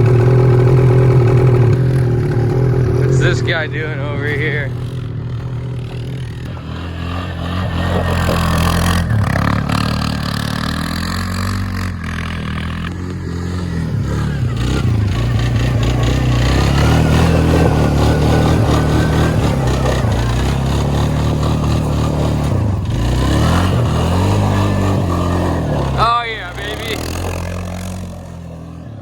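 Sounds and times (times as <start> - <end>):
snowmobile engine running: 0.0 - 29.0.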